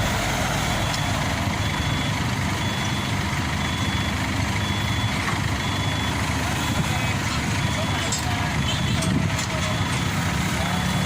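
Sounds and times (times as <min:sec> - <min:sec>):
diesel engine rumbling: 0:00.0 - 0:11.0
reversing alarm beeping: 0:00.7 - 0:11.0.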